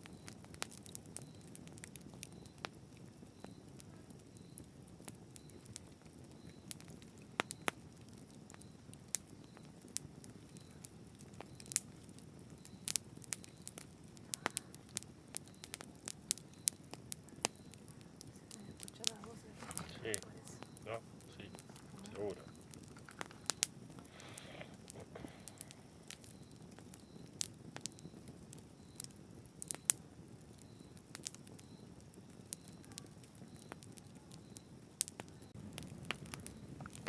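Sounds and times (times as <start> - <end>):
burning wood crackling and popping: 0.0 - 37.0
campfire flame rushing: 0.0 - 37.0.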